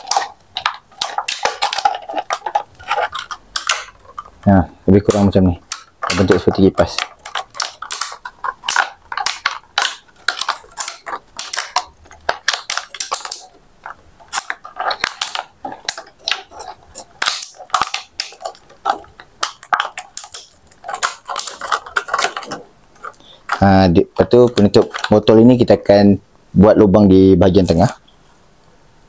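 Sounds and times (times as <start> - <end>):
plastic bottle crackling: 0.0 - 26.0.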